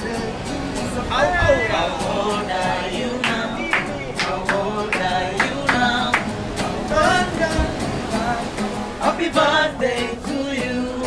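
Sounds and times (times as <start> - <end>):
people singing: 0.0 - 11.0.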